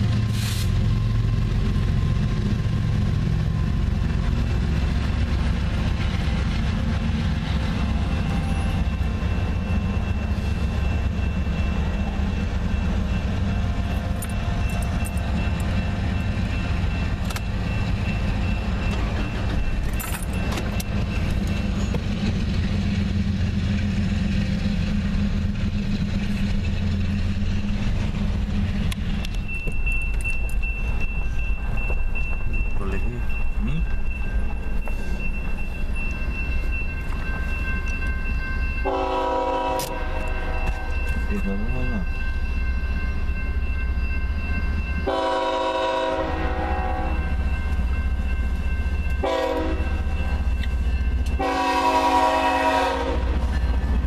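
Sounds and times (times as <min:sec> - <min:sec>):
railroad crossing bell ringing: 0:00.0 - 0:54.0.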